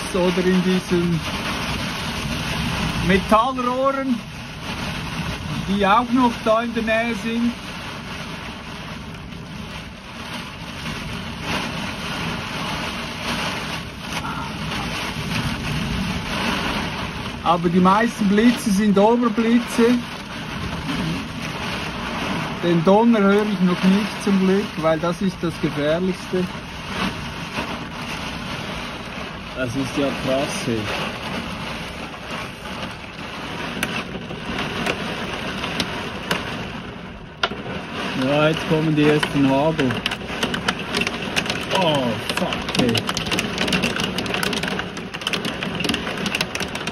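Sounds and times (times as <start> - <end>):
rain beating on vehicle: 0.0 - 46.9
storm wind gusting: 0.0 - 46.9.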